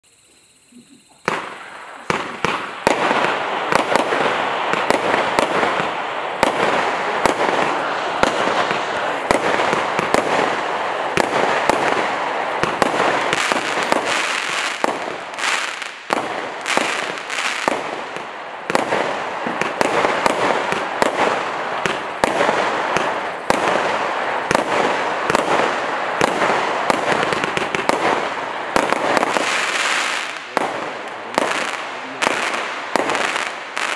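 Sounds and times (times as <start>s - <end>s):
firework cake launches and crackling: 1.2s - 33.9s.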